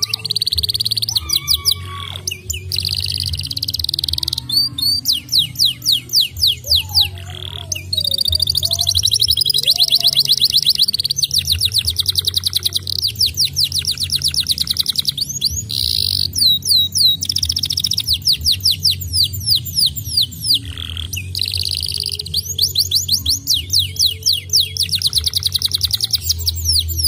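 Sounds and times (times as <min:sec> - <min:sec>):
canary singing trills: 0:00.0 - 0:27.0.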